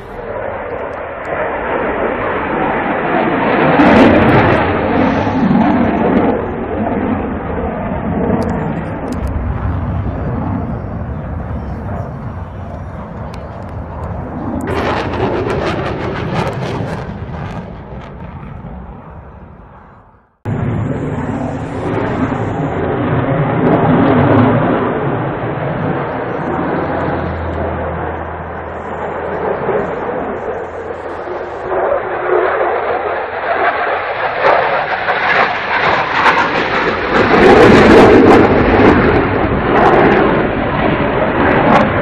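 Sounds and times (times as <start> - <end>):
jet engine rushing: 0.0 - 42.0.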